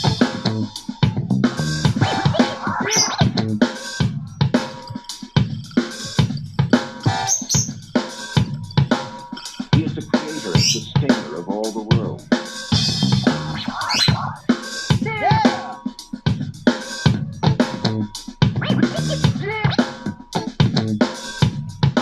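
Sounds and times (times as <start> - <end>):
music with drum beat through speaker: 0.0 - 22.0.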